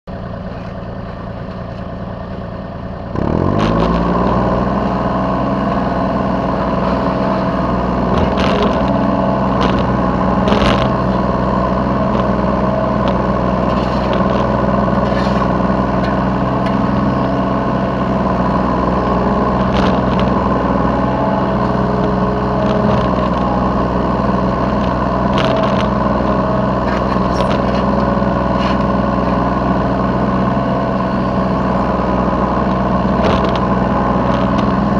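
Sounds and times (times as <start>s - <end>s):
excavator diesel engine revving: 0.1s - 34.9s.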